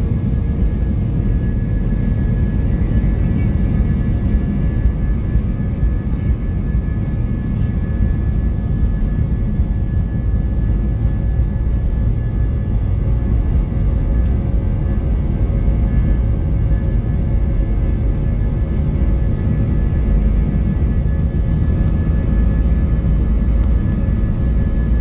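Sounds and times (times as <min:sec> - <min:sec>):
airliner engine and airflow rumble: 0:00.0 - 0:25.0.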